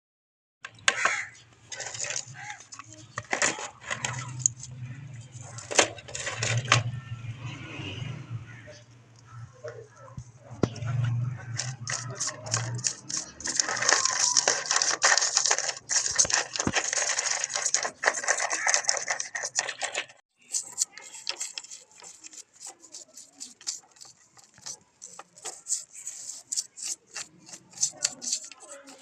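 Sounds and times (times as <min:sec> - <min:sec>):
hand tools scraping metal chain: 0:01.0 - 0:06.8, 0:10.9 - 0:29.0.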